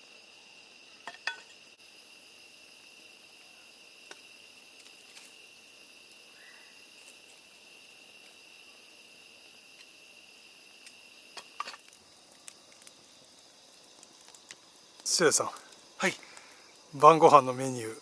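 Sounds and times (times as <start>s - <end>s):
crickets and insects chirping: 0.0s - 18.0s.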